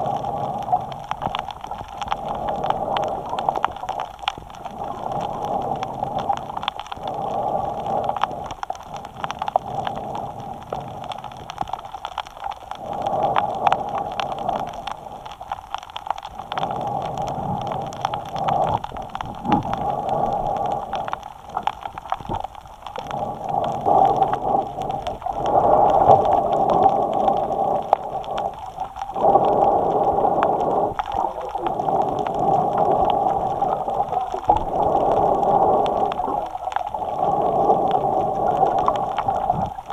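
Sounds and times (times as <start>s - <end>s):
breathing through snorkel: 0.0s - 1.1s, 4.6s - 11.3s, 12.7s - 15.3s, 16.6s - 21.6s, 23.0s - 39.8s
water crackles: 0.0s - 39.9s.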